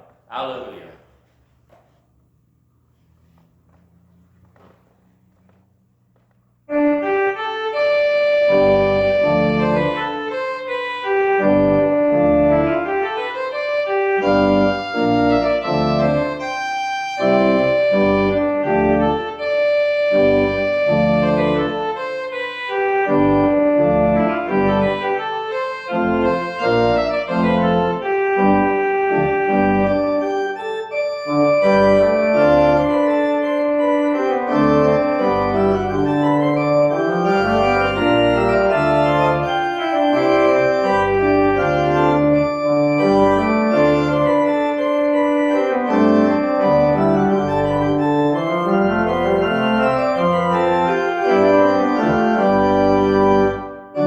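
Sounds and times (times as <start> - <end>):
organ playing chords: 6.7 - 54.0.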